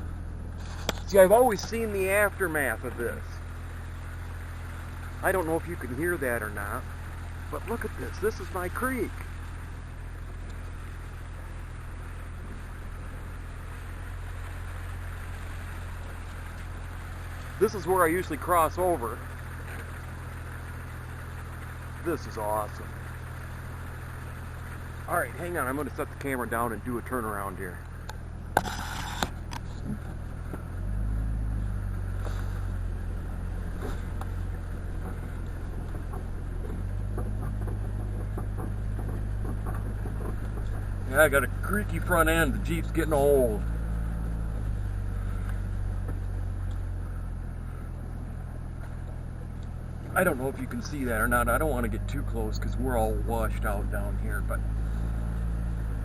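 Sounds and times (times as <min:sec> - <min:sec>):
car engine running low: 0:00.0 - 0:56.0.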